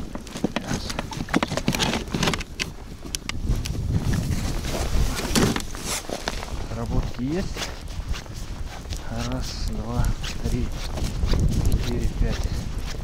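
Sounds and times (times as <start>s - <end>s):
footsteps crunching through snow: 0.0s - 13.0s
wind rumbling on microphone: 0.0s - 13.0s.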